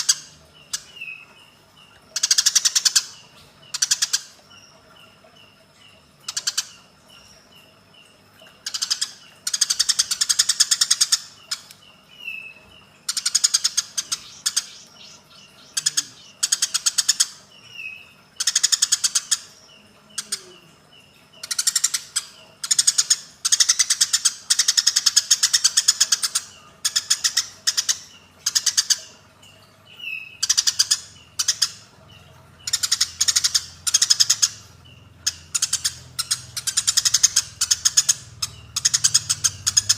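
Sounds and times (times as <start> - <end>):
sparrows harsh chattering: 0.0 - 39.9.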